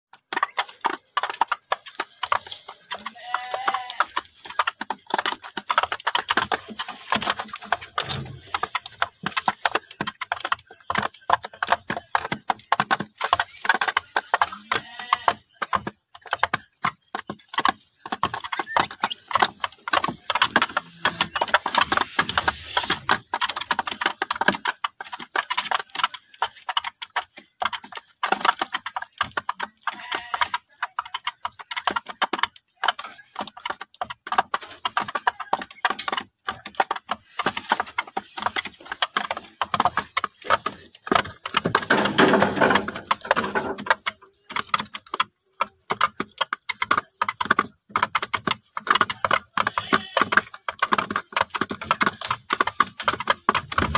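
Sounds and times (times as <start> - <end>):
chicks pecking at feed dish: 0.1 - 53.9.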